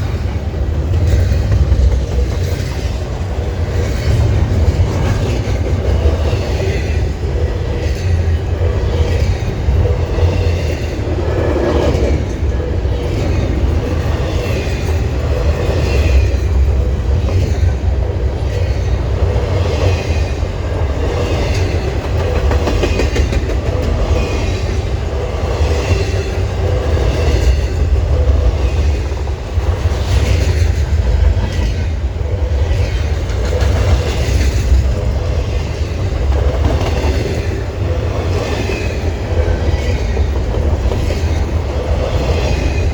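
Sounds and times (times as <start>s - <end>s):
freight train rumble: 0.0s - 42.9s
wheels clickety-clack on rail joints: 0.0s - 42.9s.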